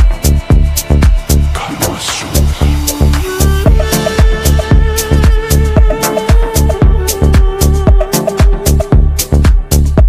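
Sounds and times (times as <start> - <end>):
heavy kick drum: 0.0 - 1.5, 3.0 - 10.0
dance music: 0.0 - 10.0.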